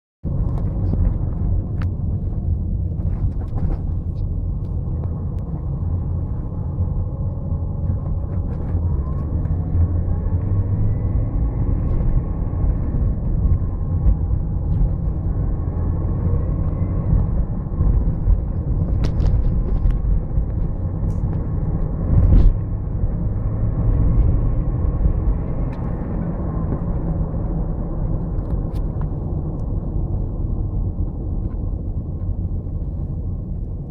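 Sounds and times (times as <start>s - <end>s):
car engine low rumble: 0.2s - 33.9s.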